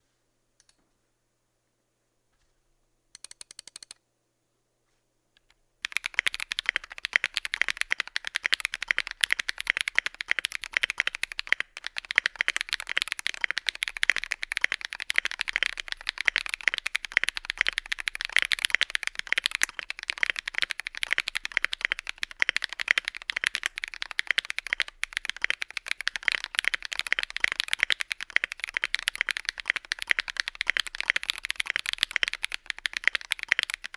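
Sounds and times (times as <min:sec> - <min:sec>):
fast typing on mechanical keyboard: 0:03.2 - 0:04.0, 0:05.8 - 0:33.9.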